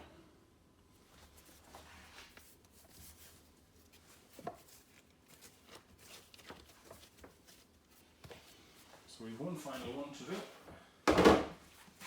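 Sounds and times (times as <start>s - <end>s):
hands kneading bread dough: 0.8s - 10.6s, 11.6s - 12.0s.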